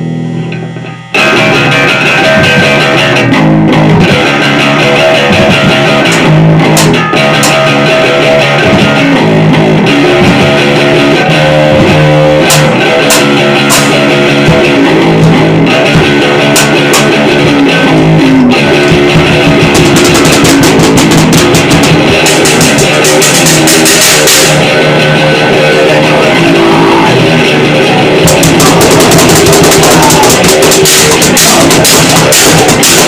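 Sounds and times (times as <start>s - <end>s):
distorted punk rock band playing: 0.0s - 33.0s.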